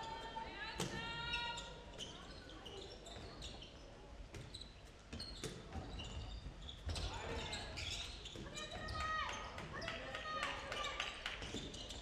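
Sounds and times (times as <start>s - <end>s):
ball bouncing on hall floor: 0.8s - 1.4s, 2.0s - 12.0s.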